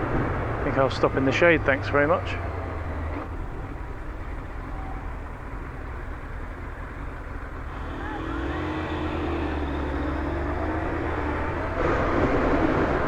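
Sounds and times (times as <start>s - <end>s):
motorcycle engine idling: 0.0s - 11.4s
another vehicle engine: 0.0s - 13.0s.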